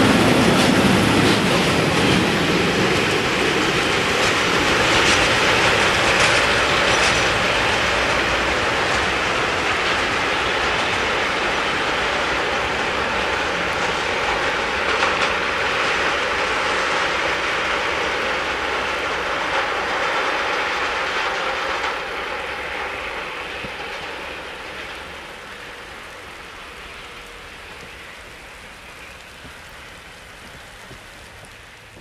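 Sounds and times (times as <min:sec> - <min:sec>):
freight train rolling on rails: 0:00.0 - 0:32.0
rain falling: 0:00.0 - 0:32.0.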